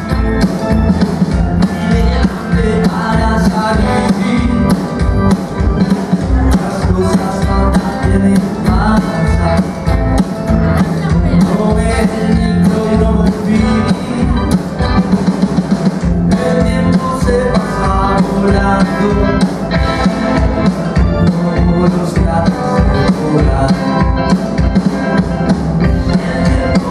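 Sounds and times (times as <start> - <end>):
double bass: 0.0 - 26.9
drum kit beating rhythm: 0.0 - 26.9
electric guitars: 0.0 - 26.9
man singing: 1.6 - 15.3, 16.1 - 24.8, 25.8 - 26.9.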